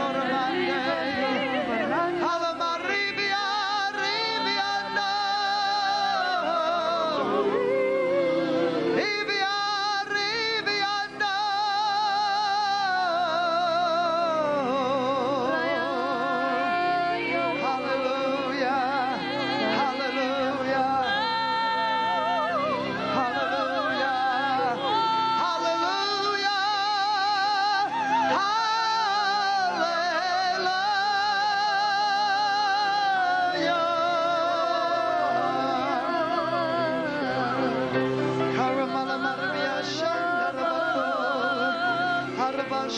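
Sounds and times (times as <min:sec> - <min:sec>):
person singing with vibrato: 0:00.0 - 0:42.9.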